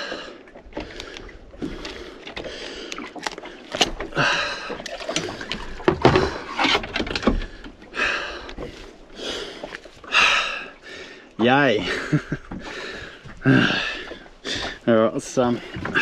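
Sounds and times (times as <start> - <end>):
knocks and clatter on boat: 0.1 - 10.1, 11.4 - 16.0.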